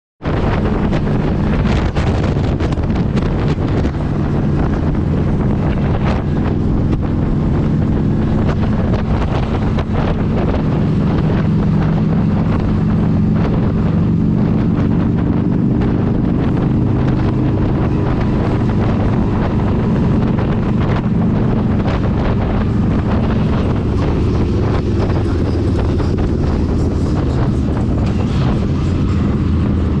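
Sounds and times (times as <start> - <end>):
motorcycle engine cruising: 0.2 - 30.0
wind buffeting on microphone: 0.2 - 30.0.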